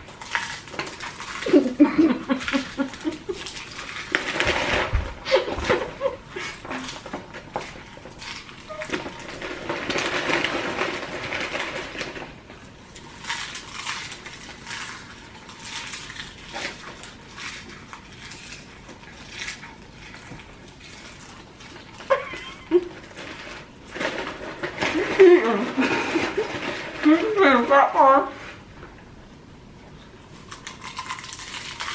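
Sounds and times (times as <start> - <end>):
people chewing: 0.0 - 29.1, 29.8 - 31.9
rustling and crunching: 0.0 - 31.9.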